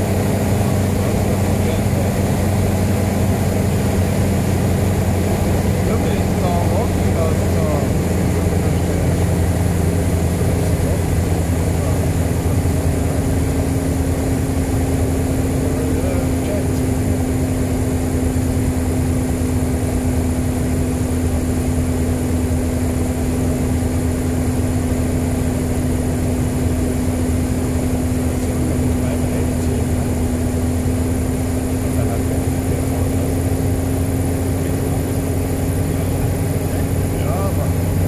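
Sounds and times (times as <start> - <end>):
aircraft engine and propeller droning: 0.0 - 38.0.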